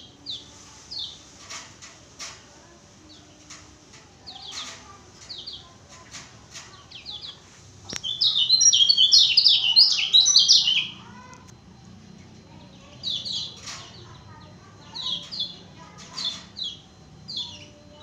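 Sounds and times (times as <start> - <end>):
songbird singing: 3.0 - 18.0.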